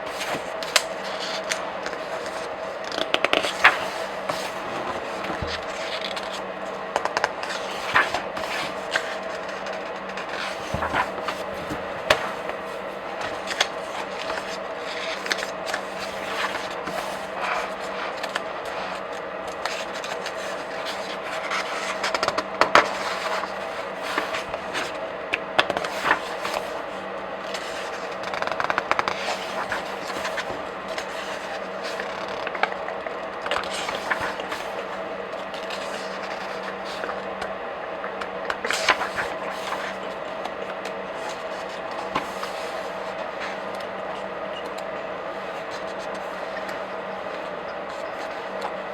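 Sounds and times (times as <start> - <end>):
pages rustling and turning: 0.0 - 48.9.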